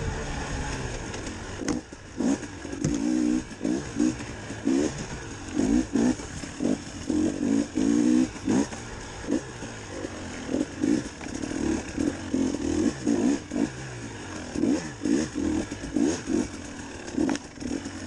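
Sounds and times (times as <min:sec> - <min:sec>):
motorcycle engine revving in bursts: 0:00.0 - 0:18.0.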